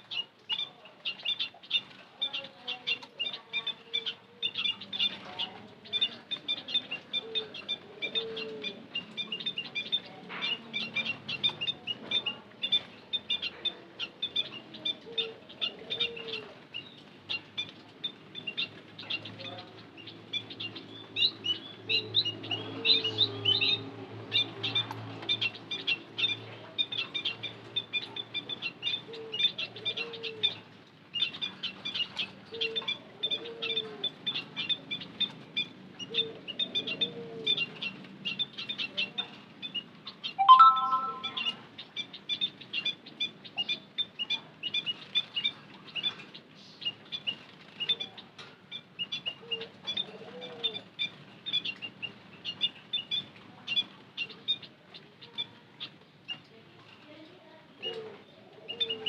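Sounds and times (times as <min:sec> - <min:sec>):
low coo-like bird calls: 0:00.0 - 0:41.6, 0:42.3 - 0:56.6, 0:57.7 - 0:59.0
birds chirping rapidly: 0:00.0 - 0:56.5.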